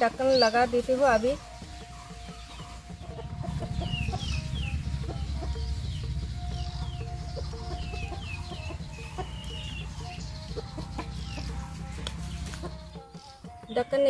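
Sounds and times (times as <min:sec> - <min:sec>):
high falling chirps: 0:00.0 - 0:13.8
chickens clucking: 0:00.0 - 0:14.0.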